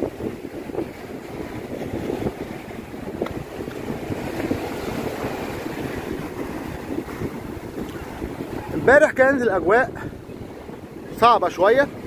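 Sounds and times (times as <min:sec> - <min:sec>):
waves breaking on rocky shore: 0:00.0 - 0:12.0
wind buffeting microphone: 0:00.0 - 0:12.0.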